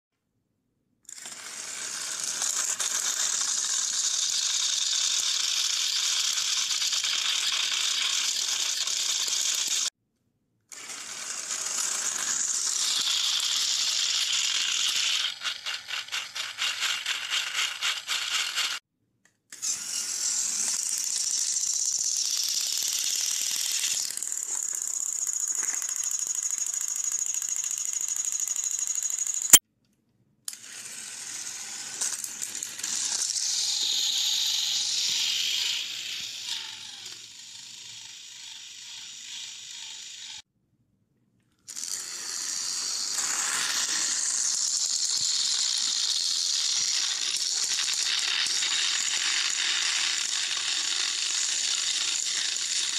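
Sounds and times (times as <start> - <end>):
toy train motors buzzing: 1.1 - 9.9, 10.7 - 18.8, 19.5 - 29.6, 30.5 - 40.5, 41.6 - 52.9.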